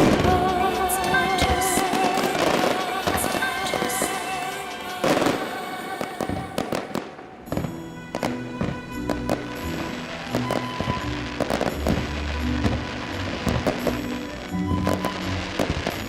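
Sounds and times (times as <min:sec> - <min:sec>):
fireworks bangs: 0:00.0 - 0:16.0
fireworks crackles: 0:00.0 - 0:16.0
music playing: 0:00.0 - 0:16.0.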